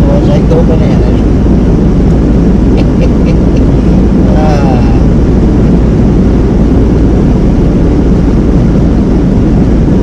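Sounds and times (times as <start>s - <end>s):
road and engine rumble inside van: 0.0s - 10.0s.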